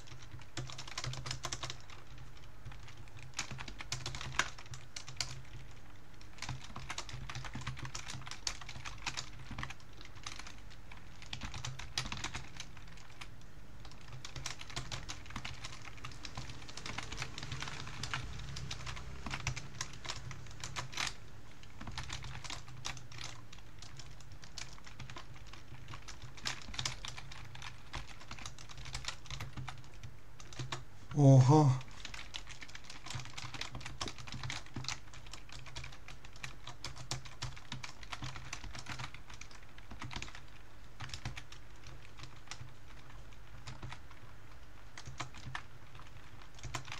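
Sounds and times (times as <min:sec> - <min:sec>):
computer keyboard typing: 0:00.0 - 0:30.8, 0:31.8 - 0:46.9.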